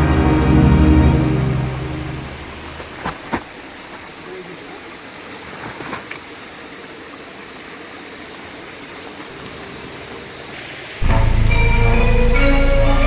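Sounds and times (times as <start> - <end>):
water hissing: 0.0 - 6.4, 7.8 - 13.0.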